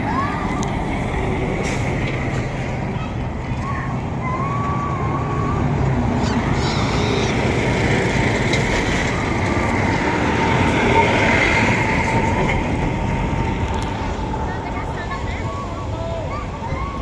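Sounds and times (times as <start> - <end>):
heavy trucks on road: 0.0 - 17.0.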